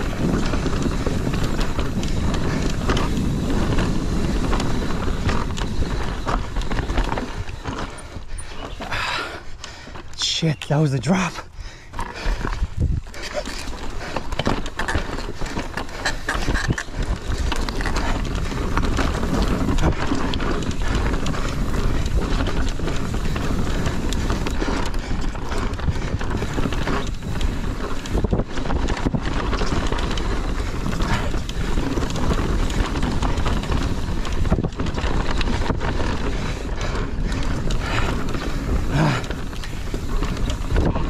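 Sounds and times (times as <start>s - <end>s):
wind buffeting microphone: 0.0s - 10.2s, 11.4s - 41.0s
bike rattling and knocking: 0.0s - 10.4s, 11.1s - 41.0s
bike tyres rumbling over dirt: 0.0s - 41.0s.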